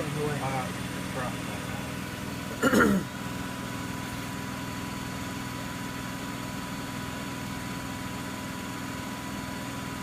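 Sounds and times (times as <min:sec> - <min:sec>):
washing machine spinning: 0:00.0 - 0:10.0.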